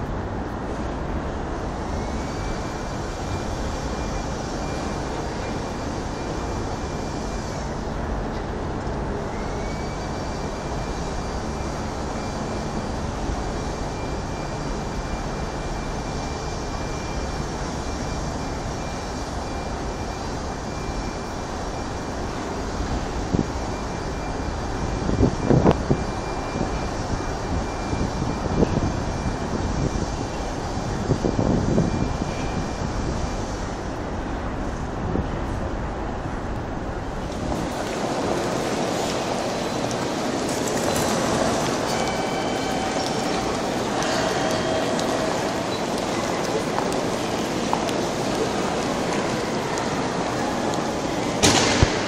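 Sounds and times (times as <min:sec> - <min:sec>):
distant city traffic rumble: 0:00.0 - 0:52.0
faint high whine: 0:01.5 - 0:35.6, 0:36.6 - 0:52.0.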